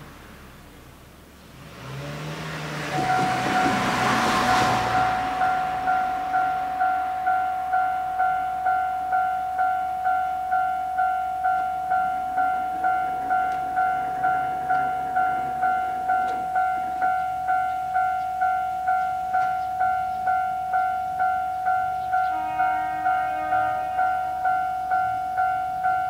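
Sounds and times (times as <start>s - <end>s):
level crossing bell ringing: 2.8s - 26.0s.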